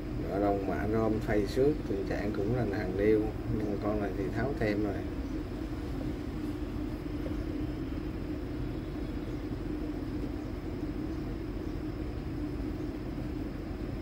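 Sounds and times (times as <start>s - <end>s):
low background rumble: 0.0s - 14.0s
low hum: 0.0s - 14.0s.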